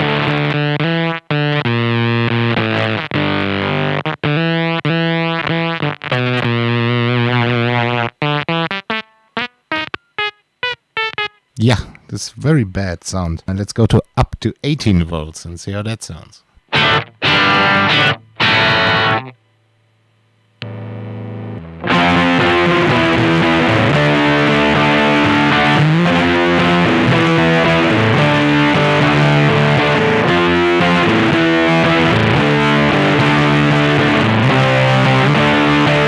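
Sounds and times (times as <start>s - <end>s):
fuzzy electric guitar: 0.0s - 13.4s, 16.6s - 19.6s, 20.4s - 36.0s
low amplifier hum: 0.0s - 36.0s.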